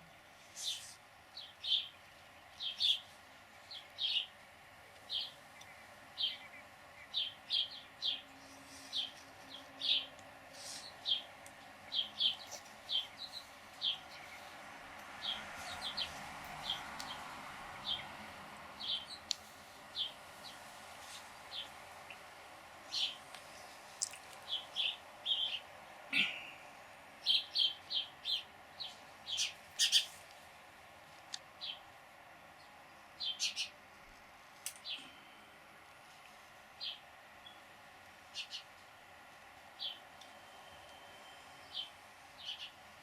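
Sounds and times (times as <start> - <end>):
faint steady hiss: 0.0 - 43.0.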